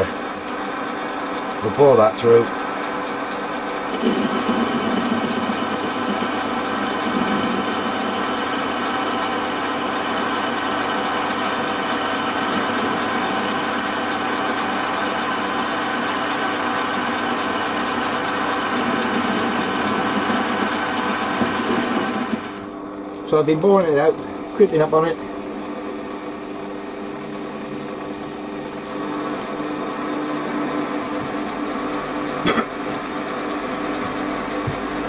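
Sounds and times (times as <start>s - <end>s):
lathe motor and gear hum: 0.0s - 35.0s.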